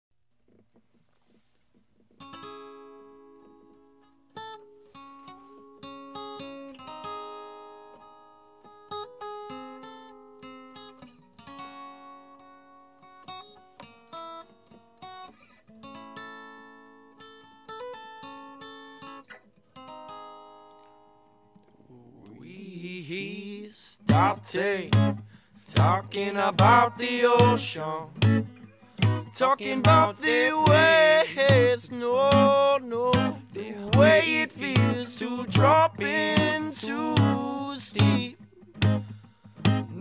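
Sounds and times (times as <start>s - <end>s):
acoustic guitar music: 0.5s - 40.0s.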